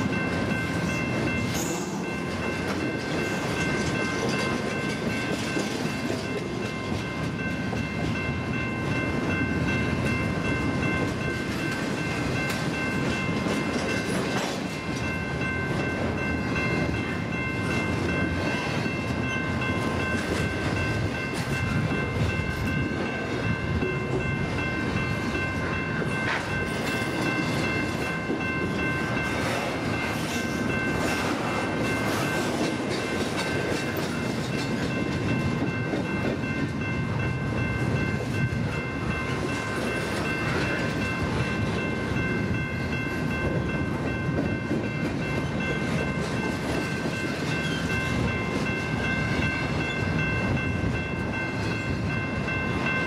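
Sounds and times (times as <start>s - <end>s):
train wheels rumbling and rattling: 0.0s - 53.0s.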